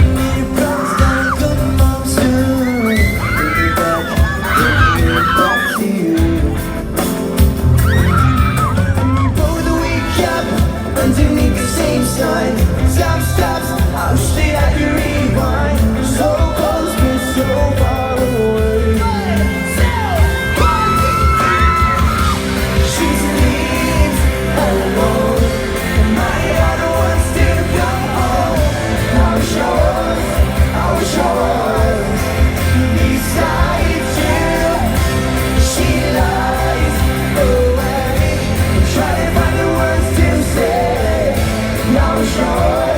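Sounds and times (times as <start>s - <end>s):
crowd yelling: 0.0s - 6.2s, 7.8s - 14.1s, 19.0s - 42.9s
live rock band playing: 0.0s - 42.9s
person singing: 0.0s - 42.9s.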